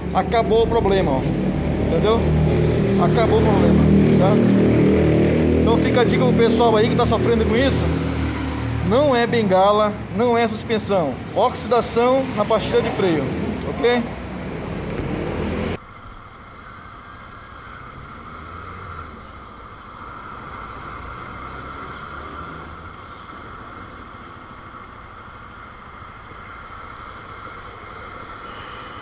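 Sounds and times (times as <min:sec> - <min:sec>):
vehicle hum: 0:00.0 - 0:29.0.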